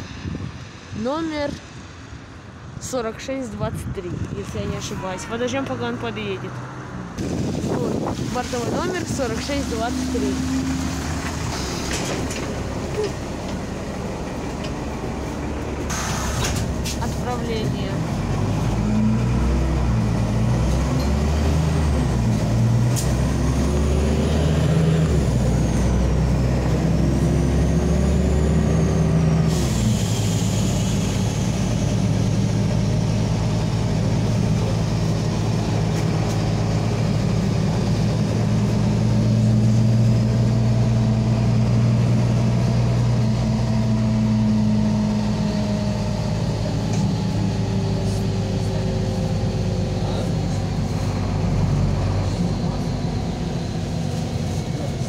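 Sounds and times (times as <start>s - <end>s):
bus engine accelerating: 0.0s - 55.0s
road noise: 0.0s - 55.0s.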